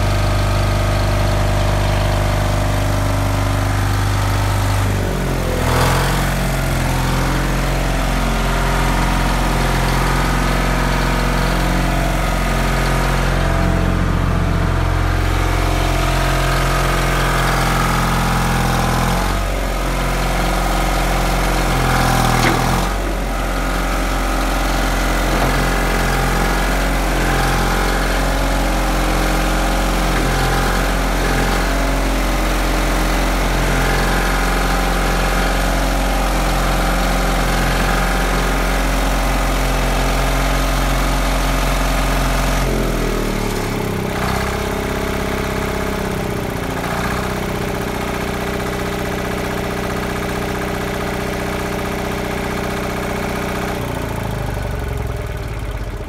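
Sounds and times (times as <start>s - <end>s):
two-stroke diesel engine running: 0.0s - 56.0s.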